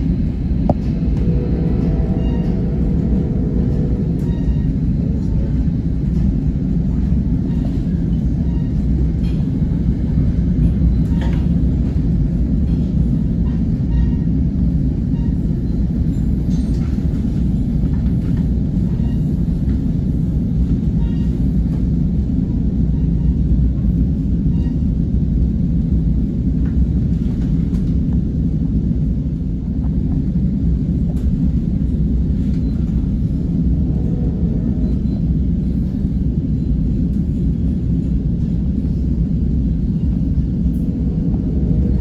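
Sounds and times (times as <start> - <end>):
train coach rumbling on rails: 0.0 - 42.0.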